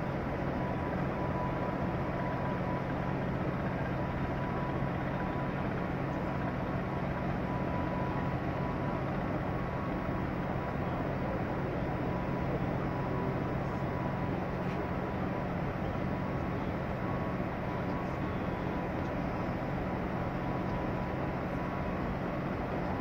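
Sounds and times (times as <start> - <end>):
diesel machinery droning: 0.0 - 23.0
faint high steady tone: 0.1 - 23.0.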